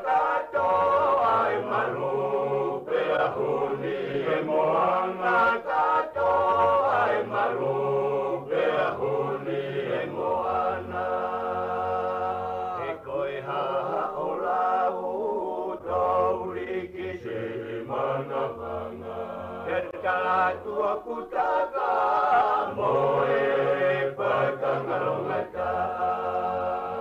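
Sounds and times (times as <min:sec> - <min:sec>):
song with singing voices: 0:00.0 - 0:27.0.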